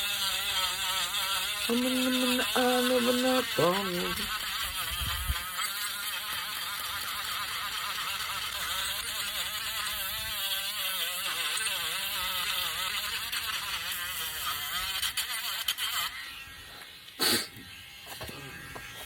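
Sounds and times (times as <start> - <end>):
electric sander on wood: 0.0 - 19.0.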